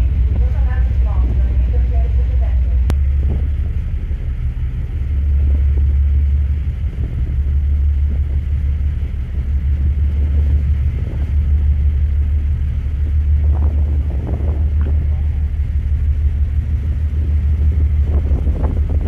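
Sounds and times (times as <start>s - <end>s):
ferry engines rumbling: 0.0s - 19.0s.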